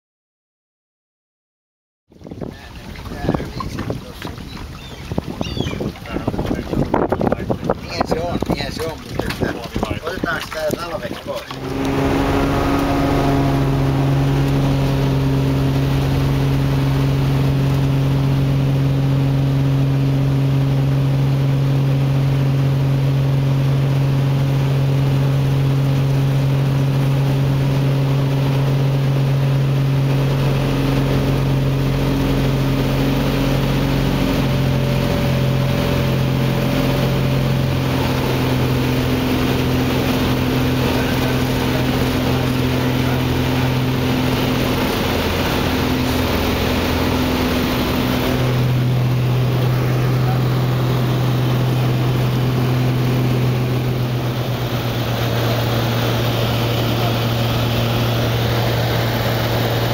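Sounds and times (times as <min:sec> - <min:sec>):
propeller plane engine droning: 0:03.8 - 0:59.9.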